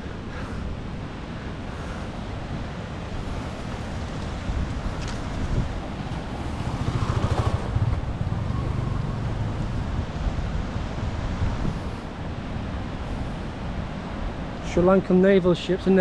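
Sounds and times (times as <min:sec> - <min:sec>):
wind buffeting microphone: 0:00.0 - 0:15.0
ocean surf: 0:00.0 - 0:16.0.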